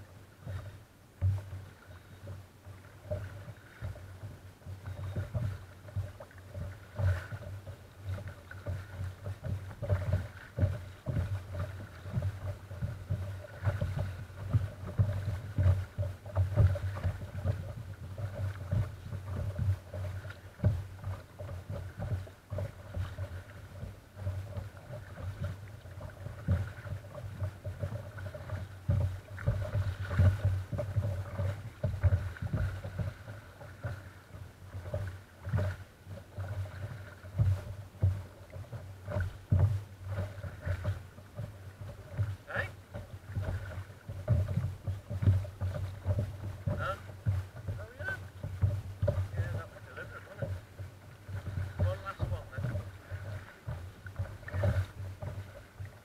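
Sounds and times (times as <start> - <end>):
water lapping against kayak hull: 0.0 - 56.0.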